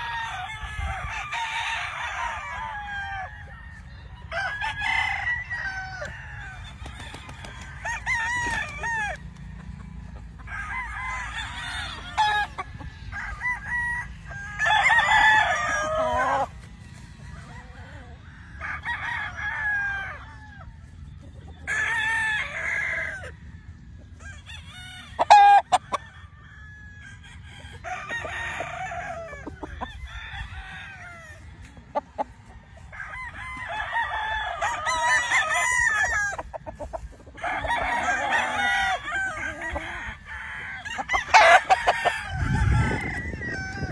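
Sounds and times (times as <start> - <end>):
roosters crowing: 0.0 - 43.9.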